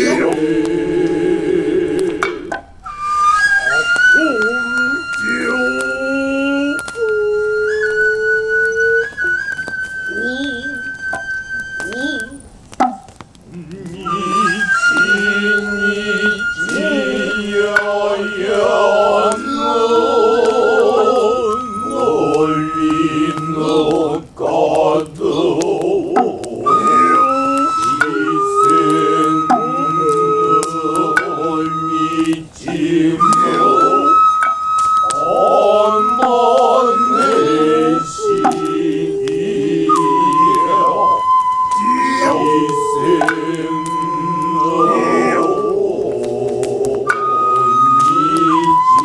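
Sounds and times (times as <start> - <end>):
sharp hand drum strokes: 0.0 - 6.0, 13.9 - 49.0
high flute note: 0.0 - 12.4, 14.0 - 24.1, 26.6 - 46.0, 47.0 - 49.0
voices chanting with vibrato: 0.0 - 49.0.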